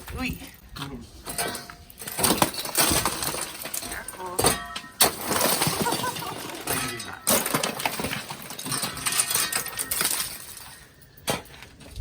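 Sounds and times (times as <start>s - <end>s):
ice pieces clinking: 1.4s - 12.0s.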